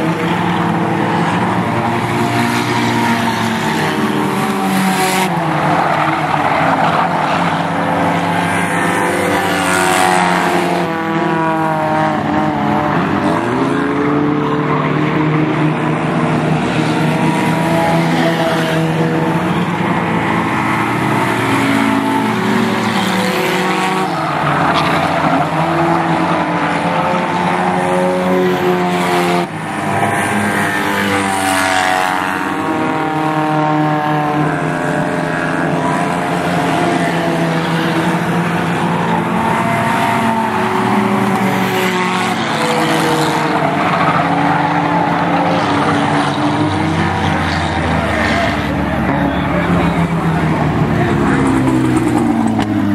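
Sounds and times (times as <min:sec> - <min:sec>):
race car engines passing: 0:00.0 - 0:52.9.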